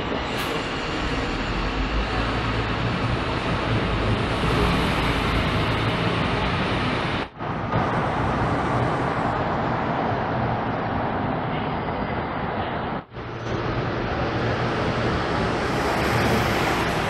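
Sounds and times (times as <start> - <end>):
buses driving past: 0.0 - 17.0.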